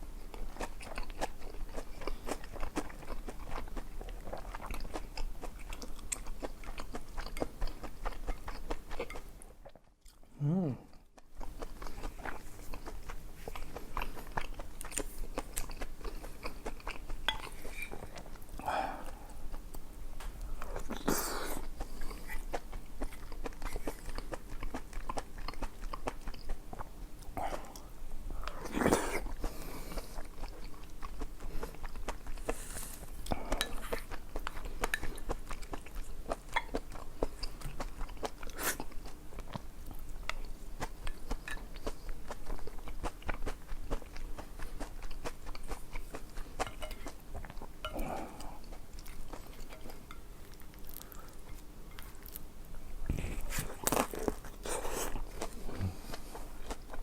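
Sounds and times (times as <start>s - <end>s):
chewing: 0.3s - 19.8s, 20.4s - 57.0s.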